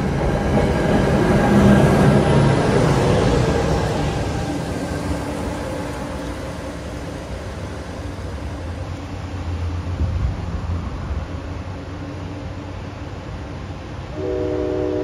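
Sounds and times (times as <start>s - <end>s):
locomotive engine drone: 0.0s - 15.0s
wheels rumbling on rail: 0.0s - 15.0s.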